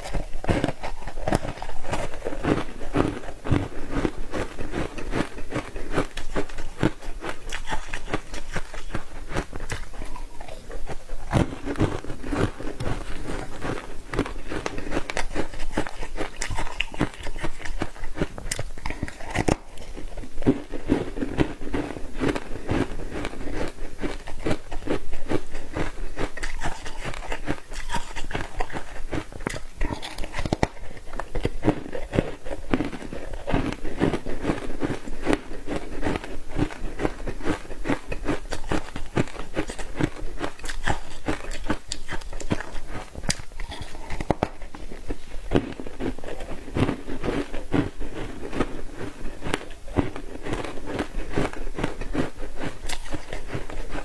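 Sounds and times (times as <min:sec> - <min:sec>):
ice being crunched and chewed: 0:00.0 - 0:54.0.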